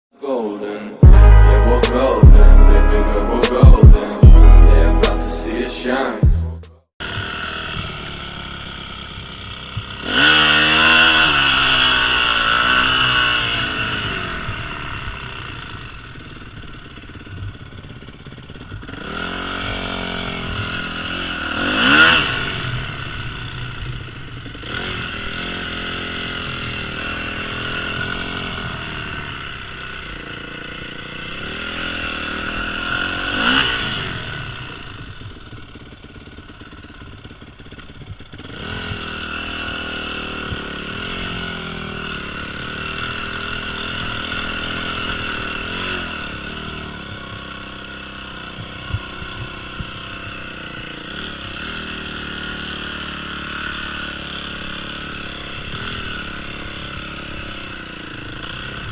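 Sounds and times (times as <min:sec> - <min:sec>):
dirt bike engine revving: 0:01.0 - 0:58.9.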